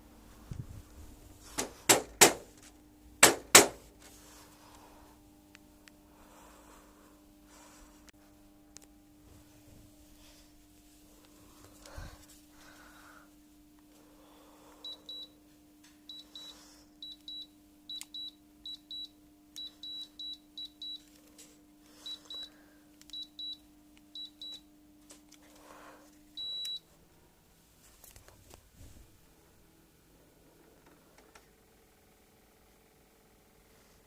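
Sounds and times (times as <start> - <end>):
appliance running hum: 0.0 - 34.0.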